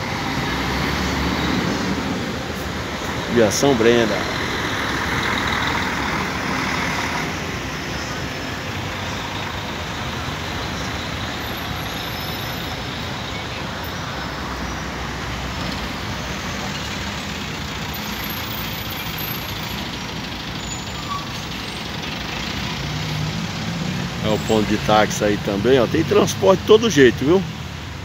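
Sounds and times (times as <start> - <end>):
bus and car engines: 0.0 - 28.0
road noise: 0.0 - 28.0.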